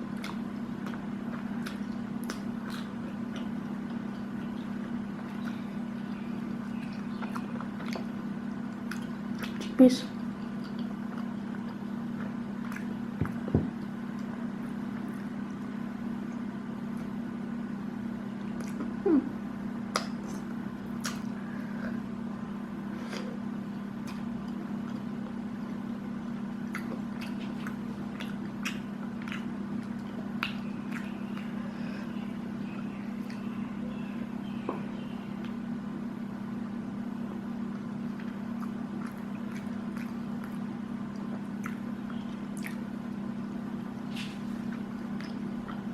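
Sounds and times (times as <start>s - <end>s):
chewing and wet mouth sounds: 0.0s - 17.2s, 18.3s - 19.2s, 19.8s - 22.0s, 24.0s - 35.7s, 37.6s - 45.9s
steady low hum: 0.0s - 45.9s.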